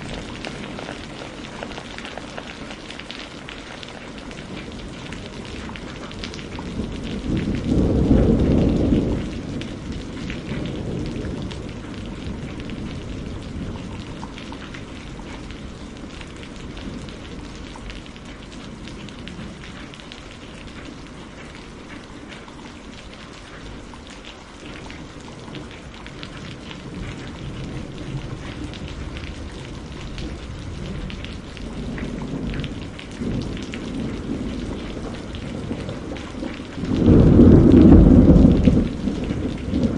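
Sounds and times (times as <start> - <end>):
thunder rumbling: 0.0 - 22.0, 24.6 - 39.9
steady rainfall: 0.0 - 39.9.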